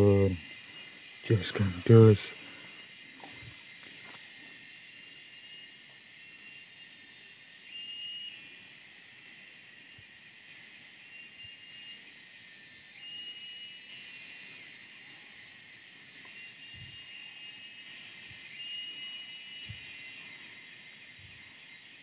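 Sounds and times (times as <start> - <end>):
high-pitched insect drone: 0.0 - 22.0
insect trills: 0.0 - 22.0.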